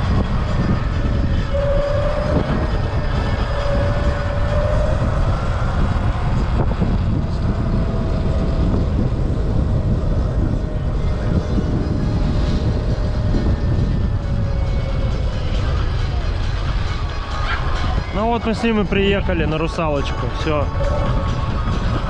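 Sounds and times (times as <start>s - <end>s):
electric motor whine: 0.0s - 18.1s
wind buffeting microphone: 0.0s - 22.0s.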